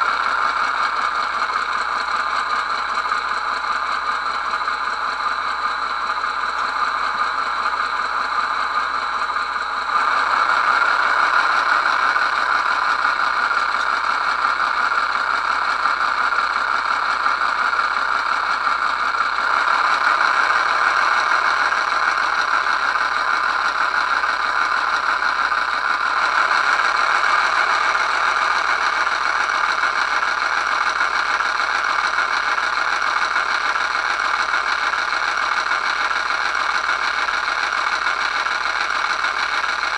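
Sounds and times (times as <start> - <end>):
model locomotive diesel engine sound: 0.0 - 39.9.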